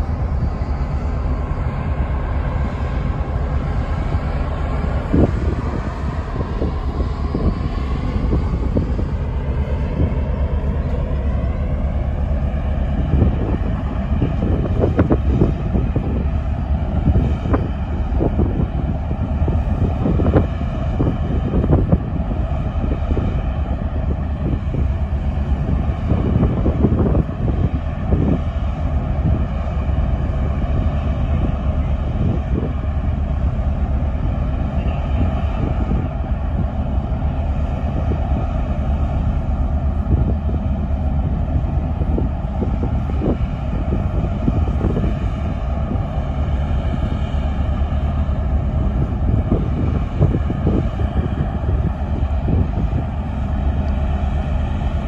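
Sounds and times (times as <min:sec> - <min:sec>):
ship engines droning: 0:00.0 - 0:55.0
wind buffeting microphone: 0:00.0 - 0:55.0.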